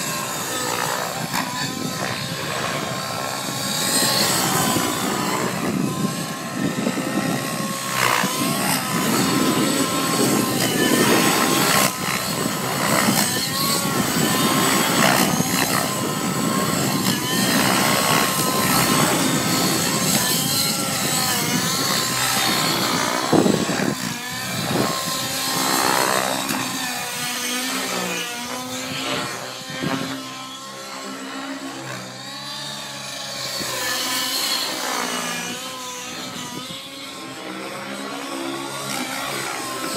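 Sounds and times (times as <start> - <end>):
model helicopter engine running hard: 0.0 - 39.9.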